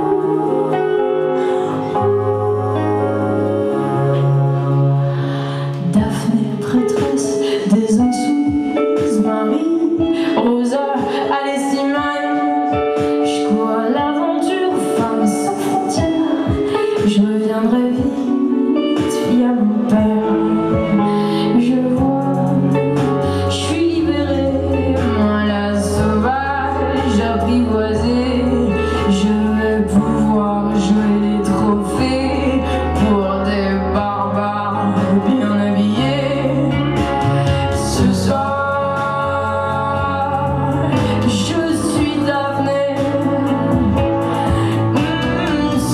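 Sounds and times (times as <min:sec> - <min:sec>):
held bass line: 0:00.0 - 0:10.6, 0:12.0 - 0:45.9
electric guitar: 0:00.0 - 0:45.9
keyboard: 0:00.0 - 0:45.9
woman singing: 0:00.0 - 0:45.9.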